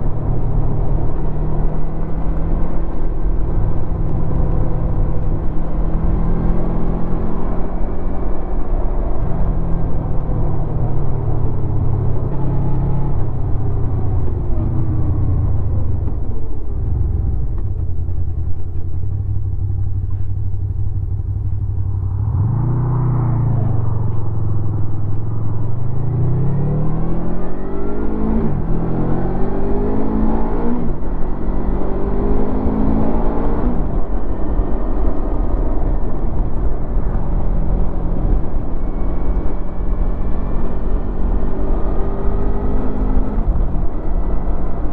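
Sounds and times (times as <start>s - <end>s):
motorcycle engine accelerating and revving: 0.0s - 44.9s.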